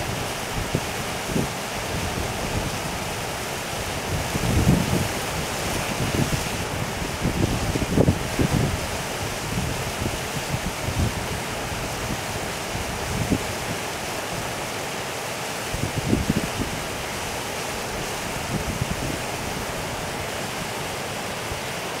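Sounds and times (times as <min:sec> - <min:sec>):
wind buffeting microphone: 0:00.0 - 0:13.8, 0:15.8 - 0:17.1, 0:17.8 - 0:20.7
stream water babbling: 0:00.0 - 0:22.0.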